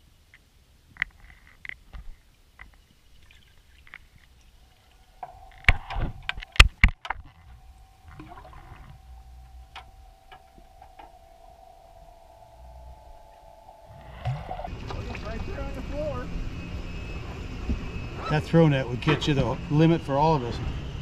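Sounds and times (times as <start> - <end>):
mid-pitched hum: 3.0 - 21.0.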